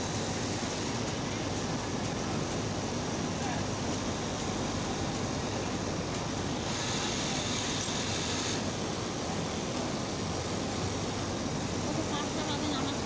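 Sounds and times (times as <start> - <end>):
factory machinery hum and hiss: 0.0 - 13.0
higher hiss: 2.2 - 13.0.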